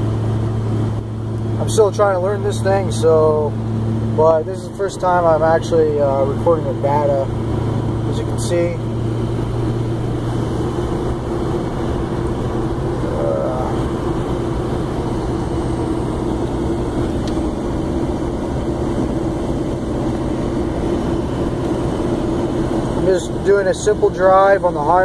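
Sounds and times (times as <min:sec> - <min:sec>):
diesel engine drone: 0:00.0 - 0:25.0
road noise: 0:00.0 - 0:25.0.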